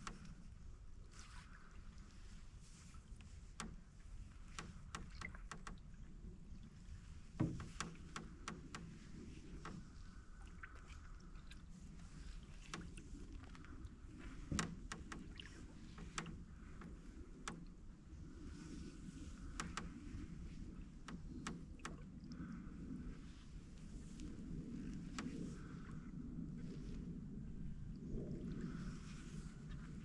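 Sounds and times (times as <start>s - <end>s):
canoe hull creaking and clicking: 0.0s - 27.1s
paddle strokes: 0.0s - 30.0s.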